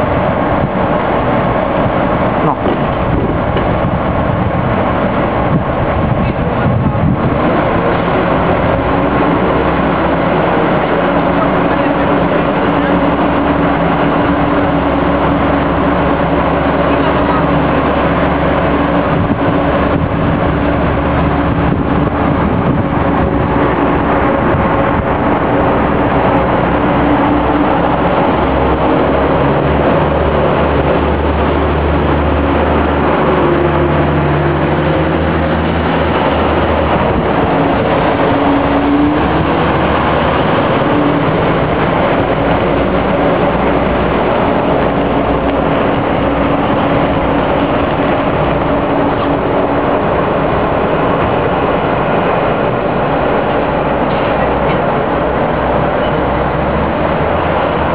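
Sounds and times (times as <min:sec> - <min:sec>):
diesel train engine running: 0:00.0 - 0:57.9.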